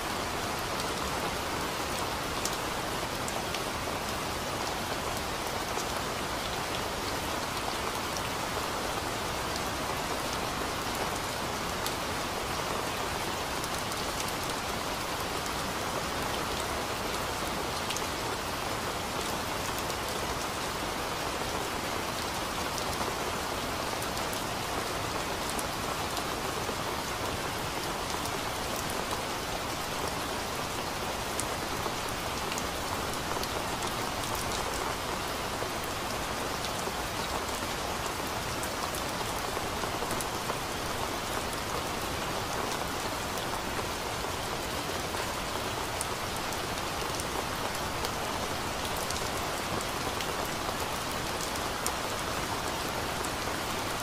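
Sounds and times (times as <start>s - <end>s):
rain falling on trees: 0.0s - 54.0s.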